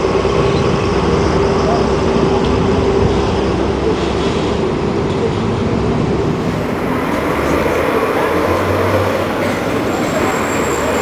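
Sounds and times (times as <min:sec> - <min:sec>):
bus diesel engine rumble: 0:00.0 - 0:11.0
road noise: 0:00.0 - 0:11.0.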